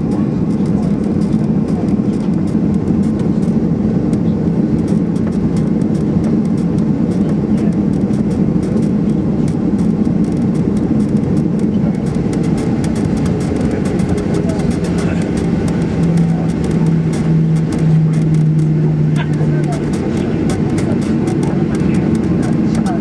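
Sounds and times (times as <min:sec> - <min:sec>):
airplane cabin engine rumble: 0:00.0 - 0:23.0.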